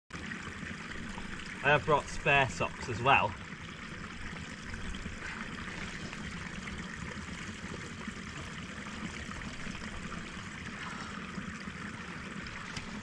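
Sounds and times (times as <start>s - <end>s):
water trickling into pool: 0.1s - 13.0s.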